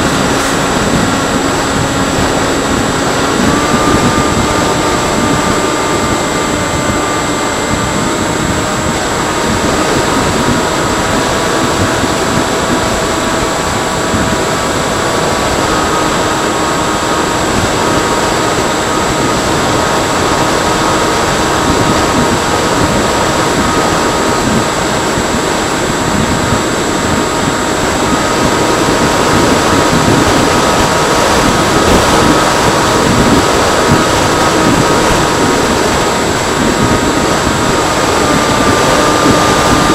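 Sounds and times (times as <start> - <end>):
model plane motor whine: 0.0 - 39.9
wind noise on microphone: 0.0 - 39.9.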